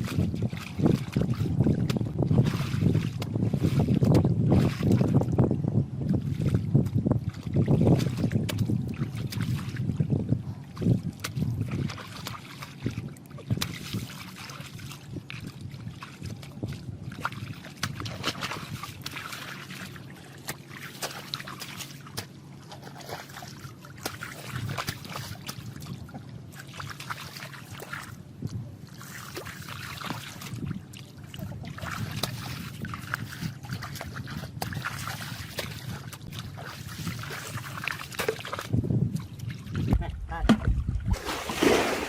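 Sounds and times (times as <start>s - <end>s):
water splashing and trickling: 0.0s - 42.0s.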